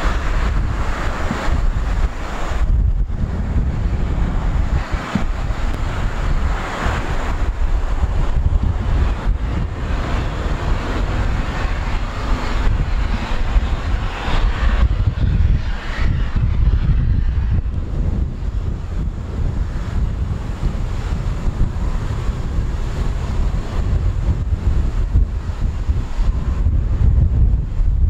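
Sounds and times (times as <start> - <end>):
jet engines running: 0.0 - 28.0
wind buffeting microphone: 0.0 - 28.0.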